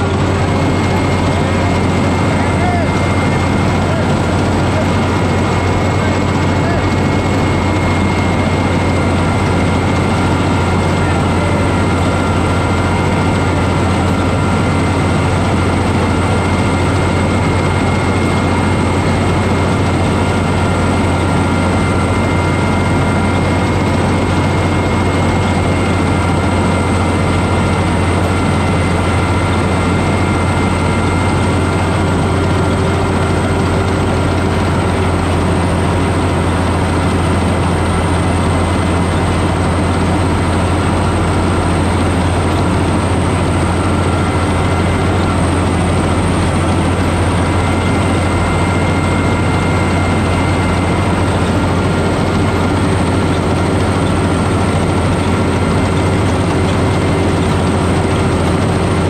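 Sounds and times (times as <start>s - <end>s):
low engine drone: 0.0s - 59.0s.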